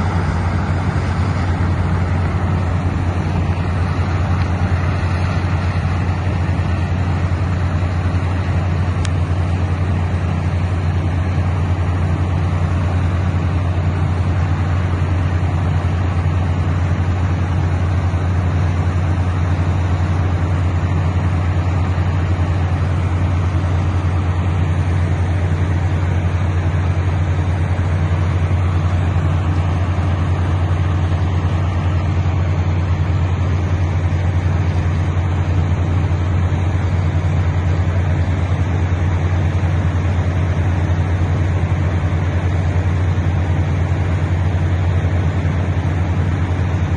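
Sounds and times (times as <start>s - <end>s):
drilling rig engine drone: 0.0s - 46.9s.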